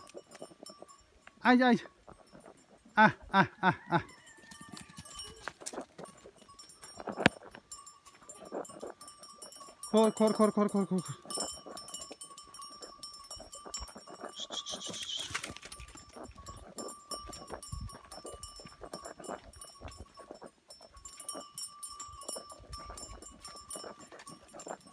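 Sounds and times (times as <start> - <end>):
goat hooves scuffing on dirt: 0.0 - 3.0, 4.1 - 24.9.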